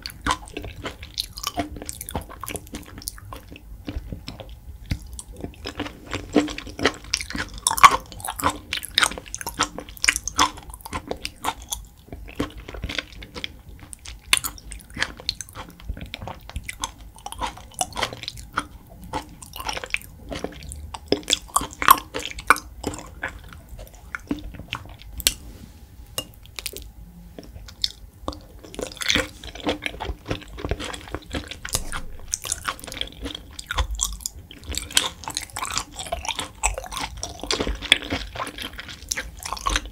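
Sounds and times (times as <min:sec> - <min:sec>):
chewing with mouth clicks: 0:00.0 - 0:25.4, 0:26.2 - 0:39.9.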